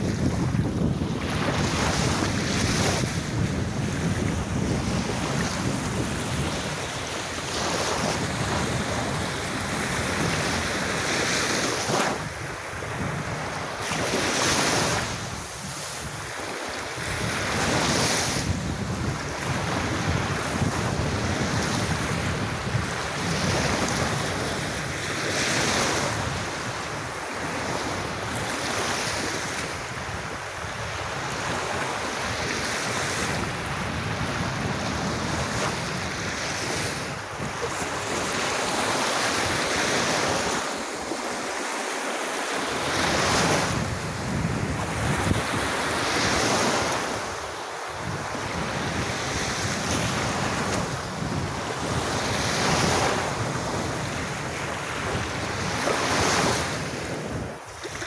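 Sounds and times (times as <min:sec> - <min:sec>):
wind noise on microphone: 0:00.0 - 0:41.6, 0:42.5 - 0:58.0
sea waves breaking on beach: 0:00.0 - 0:58.0.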